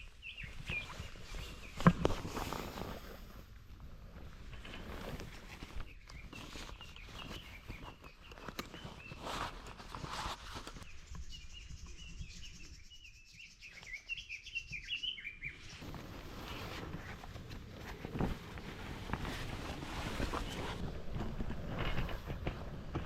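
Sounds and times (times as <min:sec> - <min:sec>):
small birds chirping: 0:00.0 - 0:03.4, 0:04.8 - 0:20.9
rustling of gear: 0:00.2 - 0:11.5, 0:15.7 - 0:23.0.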